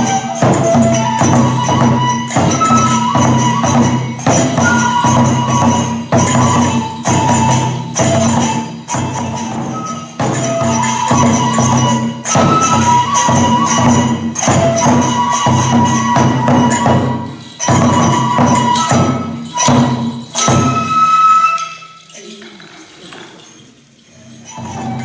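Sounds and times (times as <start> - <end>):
taiko drum beating: 0.0 - 22.0, 24.5 - 25.0
held high melody: 0.0 - 22.1, 24.1 - 25.0
hand cymbals beating: 0.0 - 22.4, 23.4 - 25.0.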